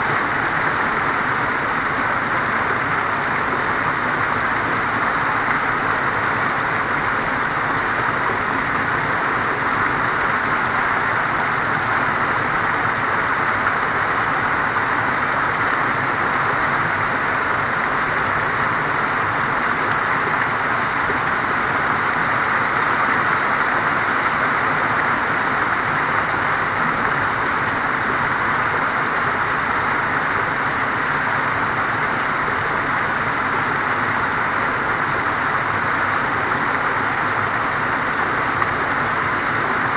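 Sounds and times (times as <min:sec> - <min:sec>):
waterfall splashing over boulders: 0:00.0 - 0:39.9.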